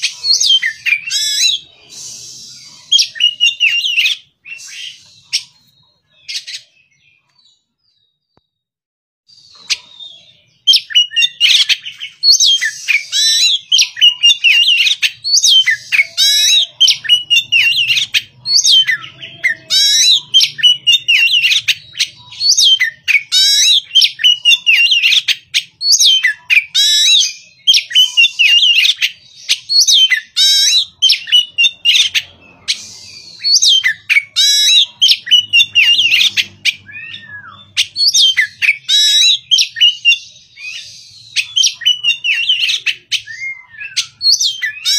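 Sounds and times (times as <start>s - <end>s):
bird singing whistled phrases: 0.0s - 7.5s, 9.3s - 44.9s.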